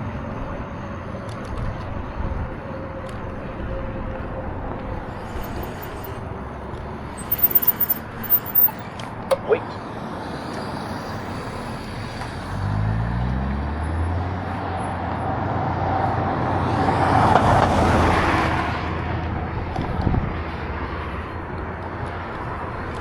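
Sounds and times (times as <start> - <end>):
vehicle road and wind noise: 0.0 - 23.0.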